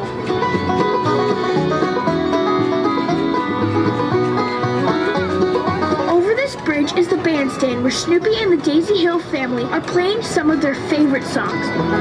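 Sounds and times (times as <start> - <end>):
bluegrass music with banjo: 0.0 - 12.0.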